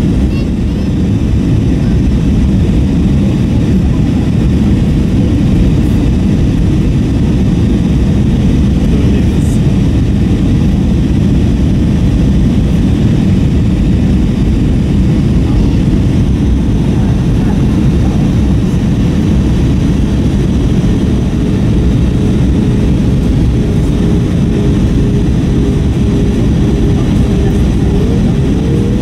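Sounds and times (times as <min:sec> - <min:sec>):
airplane cabin rumble: 0:00.0 - 0:29.0
jet engine drone: 0:00.0 - 0:29.0.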